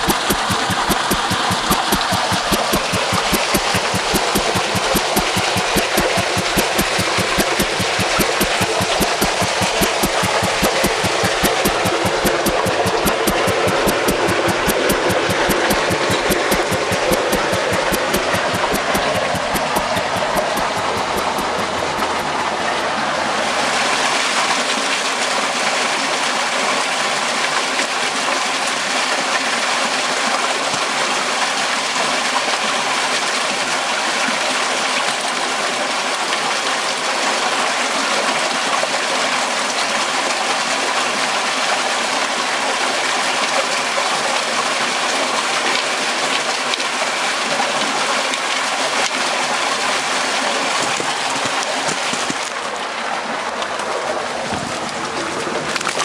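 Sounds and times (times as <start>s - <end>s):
water rushing and splashing: 0.0s - 36.8s, 39.0s - 56.0s.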